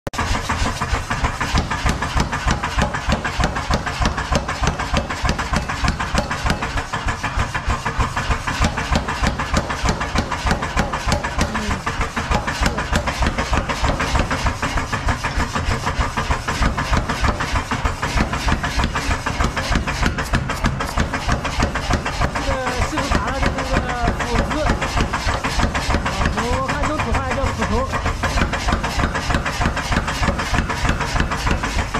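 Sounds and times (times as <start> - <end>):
power hammer pounding iron: 0.1 - 31.9.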